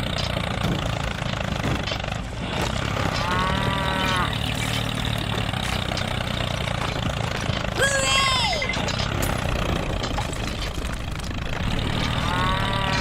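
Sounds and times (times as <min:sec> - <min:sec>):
low engine idling hum: 0:00.0 - 0:13.0.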